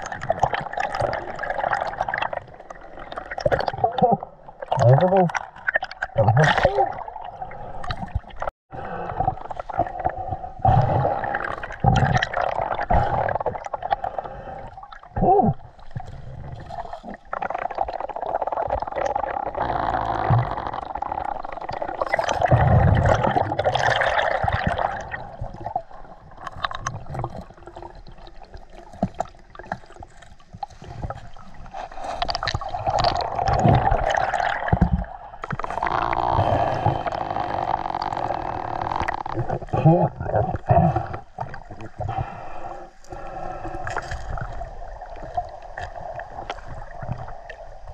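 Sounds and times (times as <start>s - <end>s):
underwater river rushing and gurgling: 0.0s - 47.9s.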